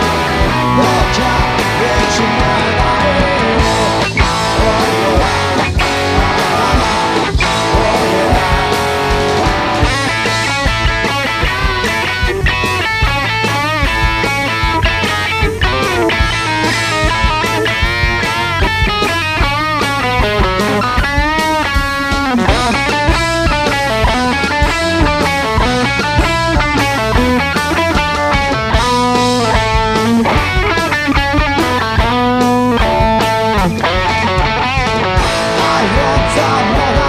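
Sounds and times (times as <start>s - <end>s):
distorted electric guitar: 0.0s - 37.0s
rock music: 0.0s - 37.0s.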